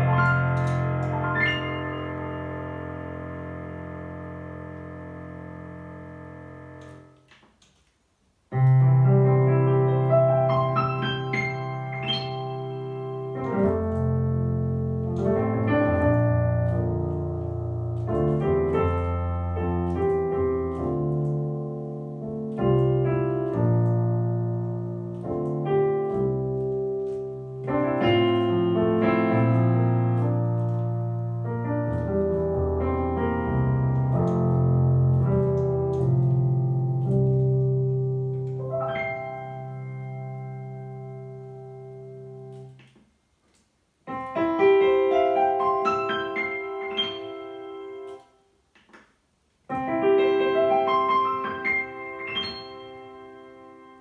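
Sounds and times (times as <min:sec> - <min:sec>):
piano chords and melody: 0:00.0 - 0:54.0.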